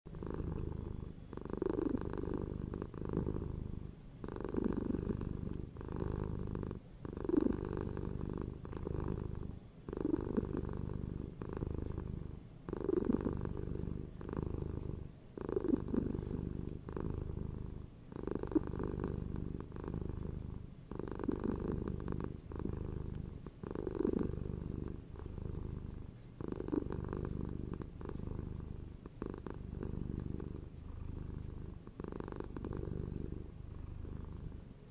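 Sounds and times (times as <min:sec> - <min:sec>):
cat purring: 0:00.1 - 0:34.9.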